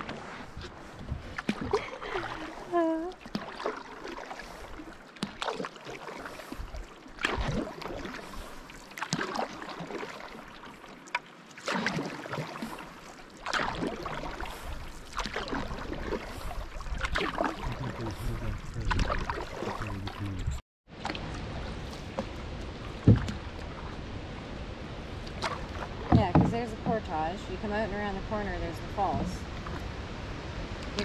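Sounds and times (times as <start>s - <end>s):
paddle splashing in water: 0.0s - 31.0s.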